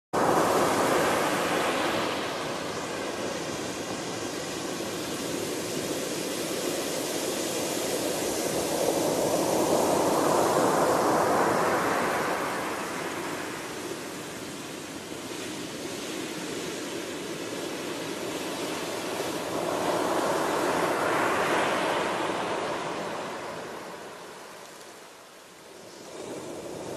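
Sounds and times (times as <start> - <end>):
ocean waves crashing on beach: 0.2 - 26.9.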